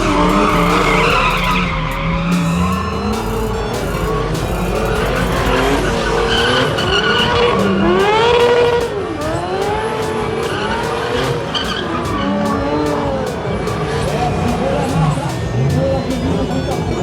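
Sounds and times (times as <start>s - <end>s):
car engine revving hard: 0.0s - 17.0s
tyres skidding and squealing: 0.0s - 17.0s.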